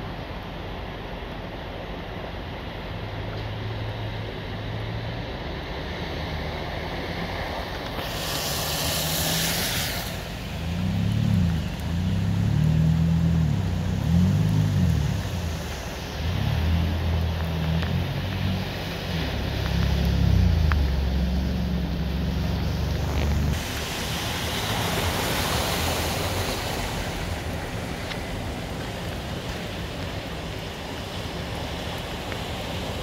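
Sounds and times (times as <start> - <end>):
rush of spraying water: 0.0 - 33.0
wash of floodwater: 0.0 - 33.0
car engine hum: 0.1 - 33.0.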